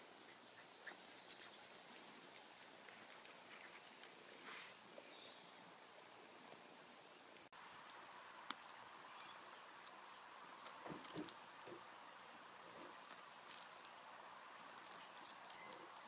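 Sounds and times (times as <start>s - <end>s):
faint outdoor hiss: 0.0s - 16.0s.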